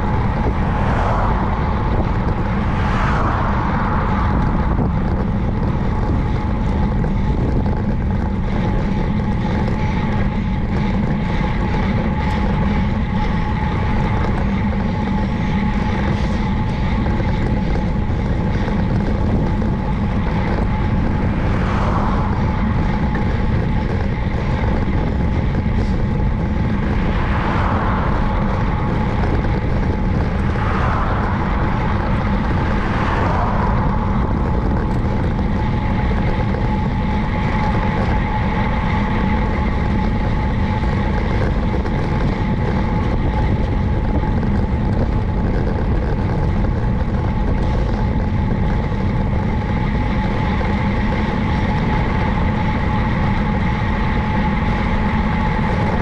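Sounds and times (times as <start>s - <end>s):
bicycle road noise: 0.0s - 56.0s
steady high hum: 0.0s - 56.0s
wind rushing: 0.0s - 56.0s.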